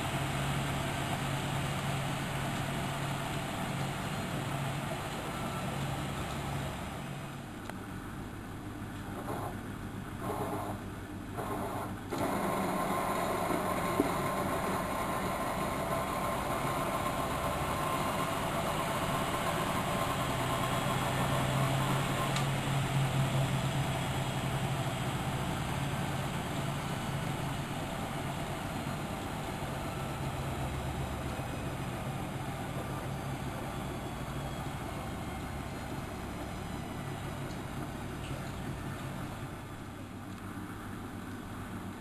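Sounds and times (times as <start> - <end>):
washing machine running: 0.0 - 42.0.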